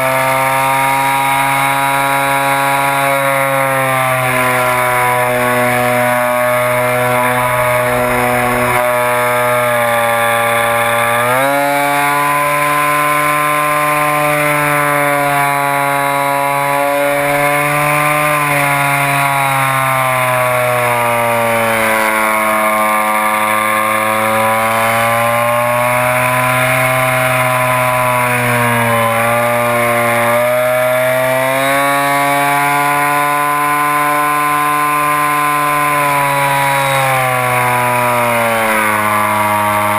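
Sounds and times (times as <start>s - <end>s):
model airplane motor and propeller: 0.0s - 39.9s.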